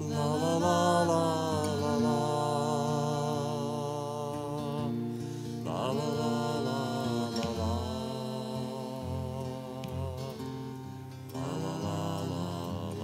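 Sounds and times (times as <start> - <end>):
acoustic guitar: 0.0 - 13.0
person singing with vibrato: 0.0 - 13.0.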